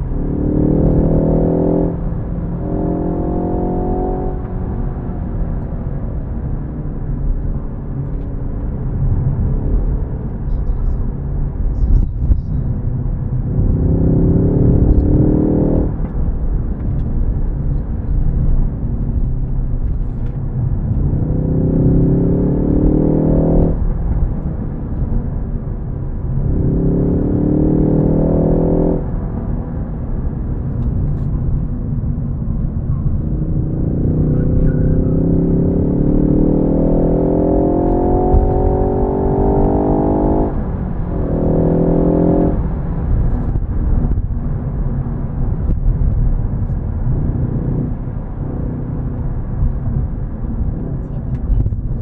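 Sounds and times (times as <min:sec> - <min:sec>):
car engine accelerating: 0:00.0 - 0:52.0
low road rumble: 0:00.0 - 0:52.0.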